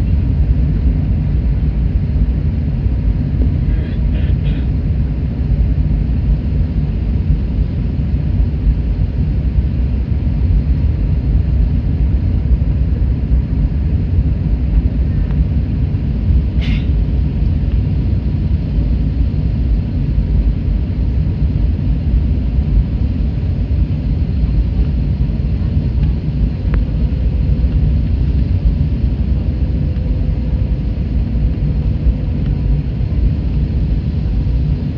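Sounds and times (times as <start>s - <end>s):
airliner cabin engine rumble: 0.0s - 34.9s.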